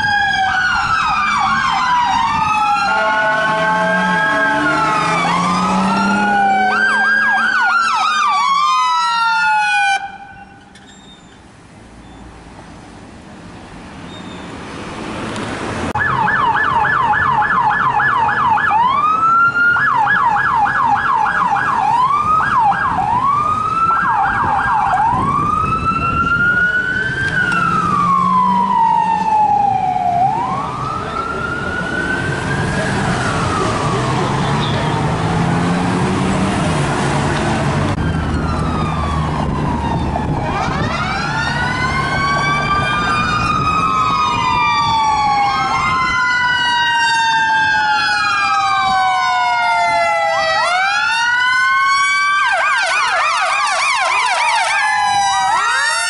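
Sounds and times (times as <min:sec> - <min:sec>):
emergency sirens wailing and yelping: 0:00.0 - 0:10.8, 0:15.8 - 0:56.0
traffic noise: 0:00.0 - 0:56.0.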